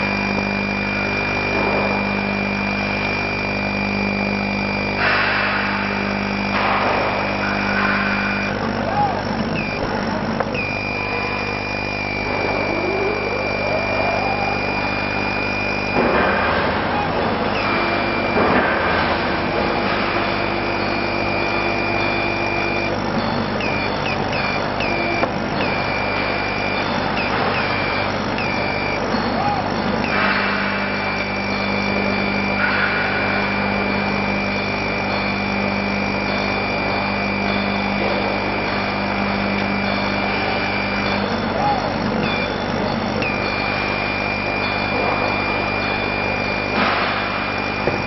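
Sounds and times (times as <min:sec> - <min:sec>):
laser cutter gantry whine: 0:00.0 - 0:48.0
low machine hum: 0:00.0 - 0:48.0.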